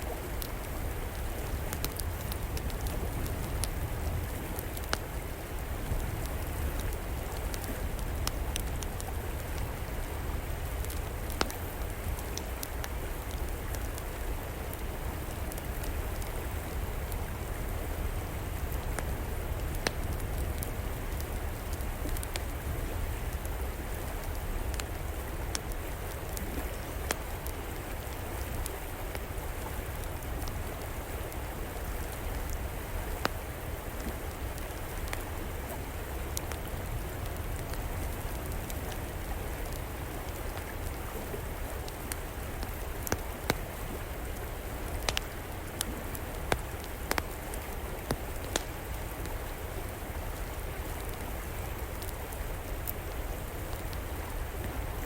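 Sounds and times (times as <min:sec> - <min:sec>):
river flowing: 0:00.0 - 0:55.0
wood fire crackling: 0:00.0 - 0:55.0.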